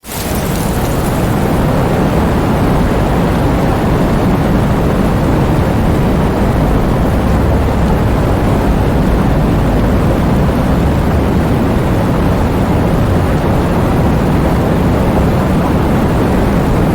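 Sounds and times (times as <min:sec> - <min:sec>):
heavy rain in strong wind: 0:00.0 - 0:16.9.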